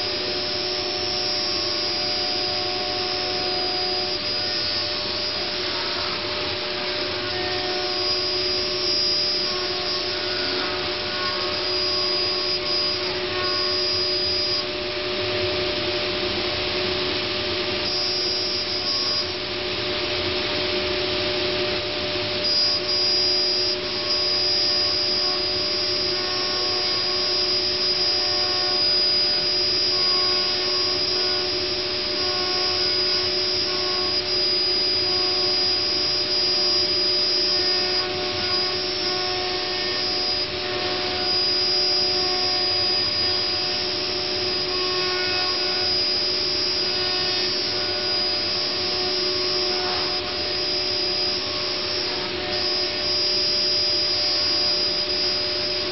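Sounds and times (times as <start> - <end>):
higher-pitched machine tones: 0.0 - 15.7, 17.3 - 55.9
router spindle whining: 0.0 - 55.9.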